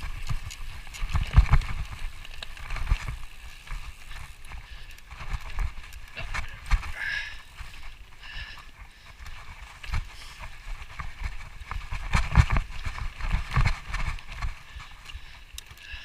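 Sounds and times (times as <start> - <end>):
footsteps on trail: 0.0 - 16.0
gear rustling: 0.0 - 16.0.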